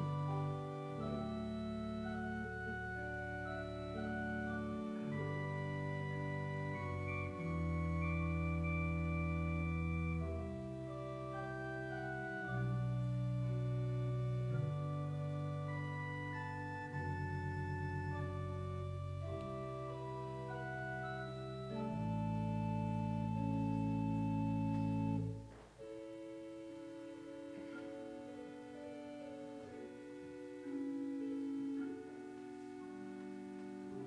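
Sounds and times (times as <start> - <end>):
organ playing slow chords: 0.0 - 34.0.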